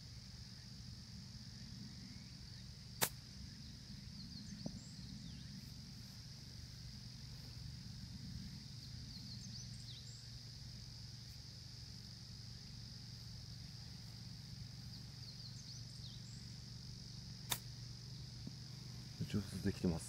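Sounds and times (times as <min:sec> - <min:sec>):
insects droning: 0:00.0 - 0:20.0
low steady hum: 0:00.0 - 0:20.0.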